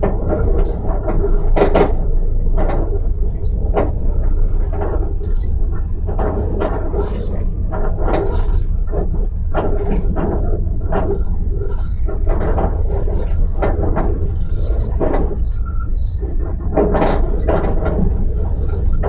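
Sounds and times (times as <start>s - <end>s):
knocks and rattles: 0.0s - 19.0s
train rumbling on track: 0.0s - 19.0s.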